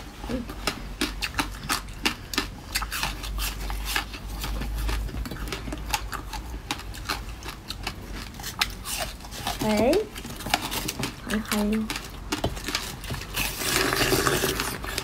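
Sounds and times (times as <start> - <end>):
crunchy food being chewed: 0.0 - 15.0.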